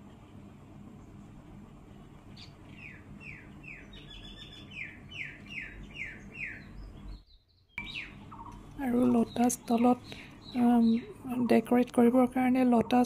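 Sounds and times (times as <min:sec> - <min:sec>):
low steady hum: 0:00.0 - 0:13.0
bird chirping: 0:02.3 - 0:13.0.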